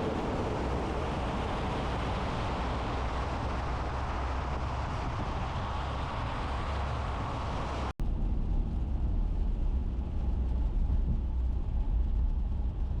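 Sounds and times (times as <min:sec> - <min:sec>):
low road rumble: 0:00.0 - 0:13.0.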